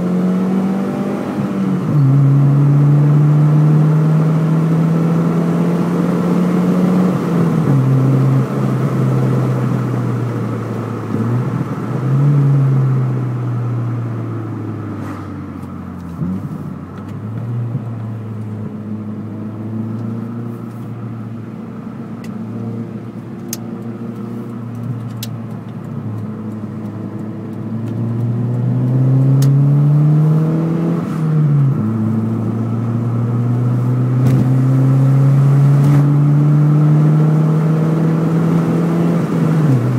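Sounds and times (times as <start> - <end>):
car engine revving under way: 0.0 - 39.9.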